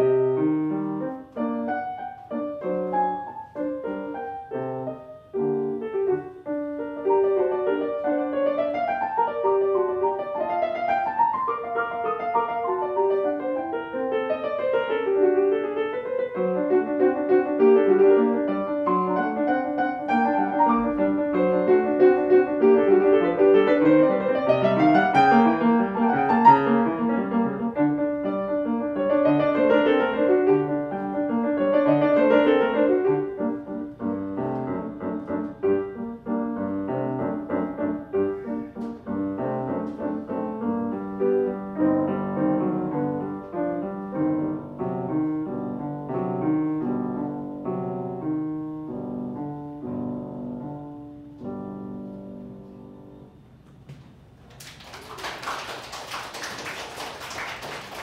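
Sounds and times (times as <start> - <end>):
solo classical piano: 0.0 - 54.5.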